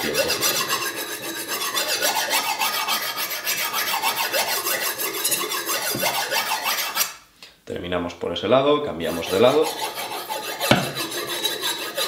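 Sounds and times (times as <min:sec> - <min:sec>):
knife scraping on honing rod: 0:00.0 - 0:07.2, 0:09.1 - 0:12.0.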